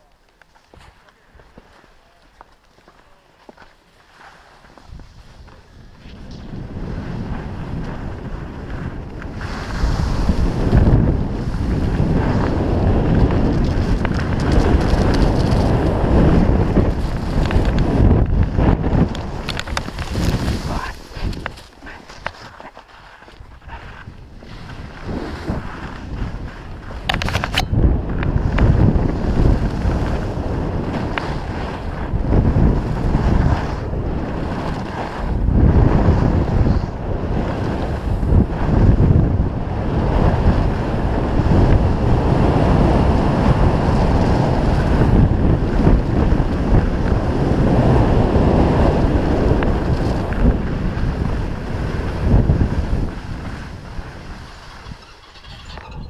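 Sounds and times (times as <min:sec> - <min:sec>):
skis scraping over snow: 0:00.0 - 0:55.3
wind buffeting microphone: 0:04.7 - 0:56.0.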